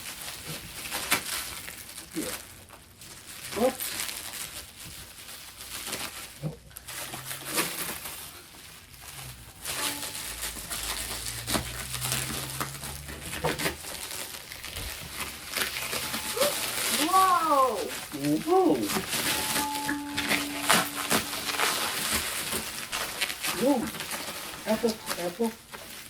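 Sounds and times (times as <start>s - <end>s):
packaging wrap crinkling: 0.0s - 26.0s.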